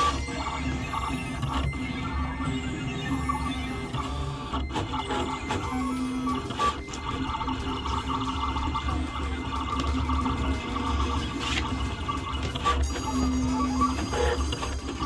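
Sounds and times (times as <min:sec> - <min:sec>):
vinyl cutter motors whining: 0:00.0 - 0:15.0.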